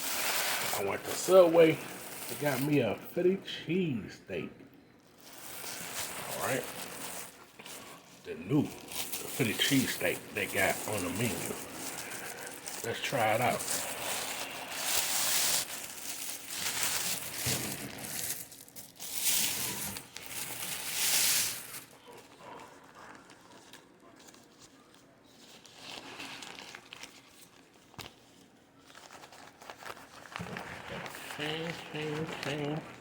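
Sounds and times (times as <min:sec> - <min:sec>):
paper wrapper crinkling and tearing: 0:00.0 - 0:03.8, 0:05.0 - 0:33.0.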